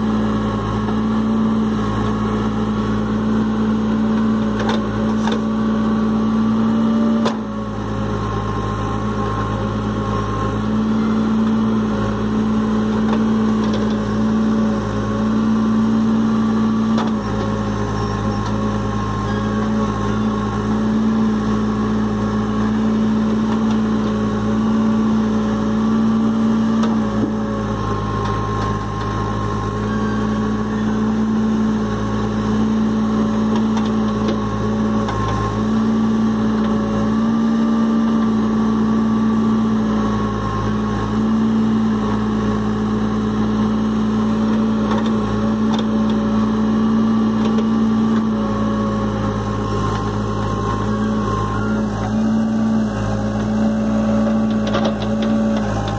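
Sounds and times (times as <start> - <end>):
backhoe diesel engine running: 0.0 - 55.9.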